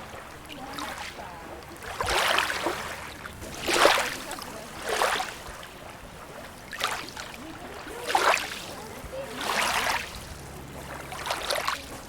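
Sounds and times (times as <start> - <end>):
moving water background: 0.0 - 12.0
small waves lapping at shore: 0.0 - 12.0.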